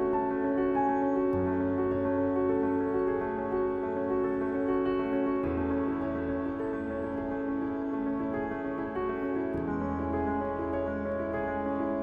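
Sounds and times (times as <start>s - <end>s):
soft instrumental held chords: 0.0s - 12.0s.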